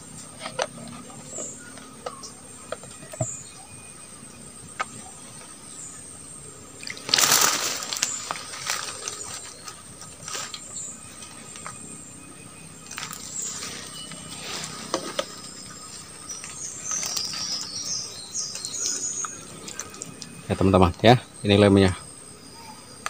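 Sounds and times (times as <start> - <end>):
rustle: 0.0 - 23.0.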